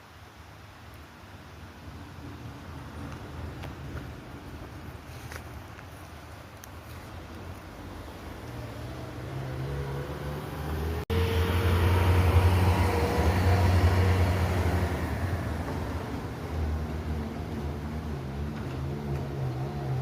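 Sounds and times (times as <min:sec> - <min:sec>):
low engine rumble: 0:01.7 - 0:20.0.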